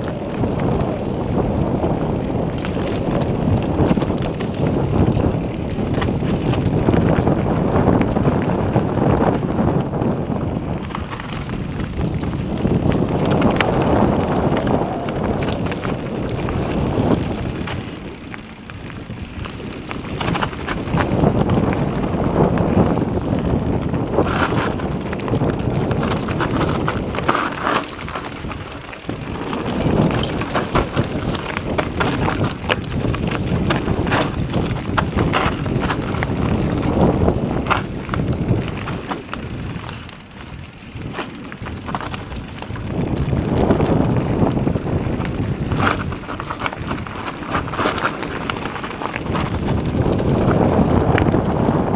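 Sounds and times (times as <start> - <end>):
bike rattling: 0.0 - 51.9
bike tyres rolling over stones: 0.0 - 51.9
wind buffeting microphone: 0.0 - 51.9.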